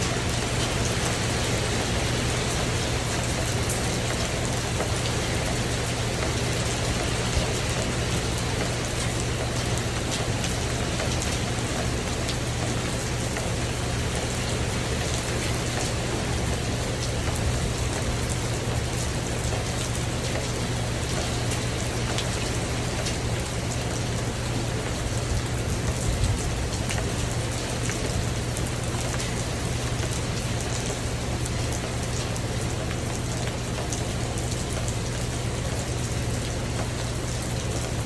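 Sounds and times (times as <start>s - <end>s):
heavy rain on a tin roof: 0.0s - 38.0s.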